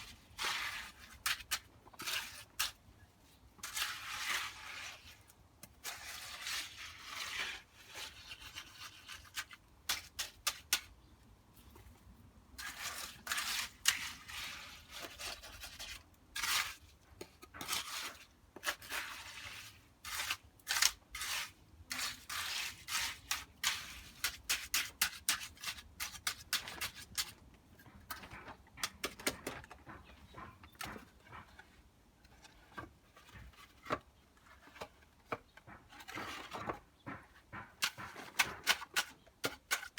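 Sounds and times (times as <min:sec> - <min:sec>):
tool scraping wet concrete: 0:00.0 - 0:02.9, 0:03.6 - 0:10.9, 0:12.6 - 0:39.9.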